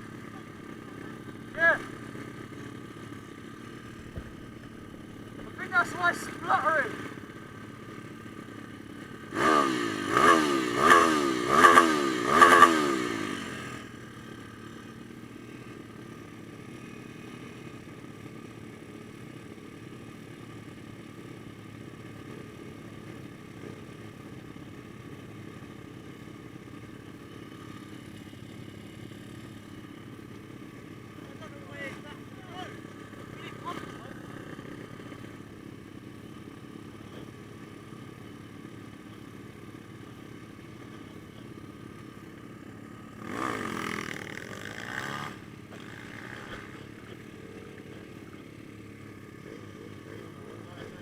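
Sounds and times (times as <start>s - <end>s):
motorbike engine revving: 0.0s - 15.0s, 24.4s - 39.0s, 39.7s - 51.0s
motorbike engine idling: 0.0s - 51.0s.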